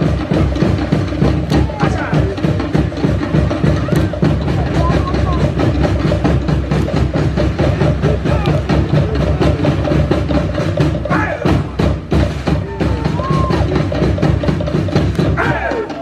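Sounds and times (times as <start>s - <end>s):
deep drum: 0.0s - 16.0s
wooden log drums beating: 0.0s - 16.0s.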